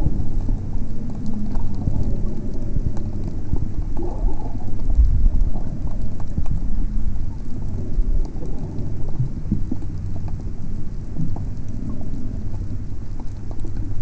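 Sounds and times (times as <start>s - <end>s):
faint clicks and crackles: 0.0s - 14.0s
muffled underwater water rumble: 0.0s - 14.0s.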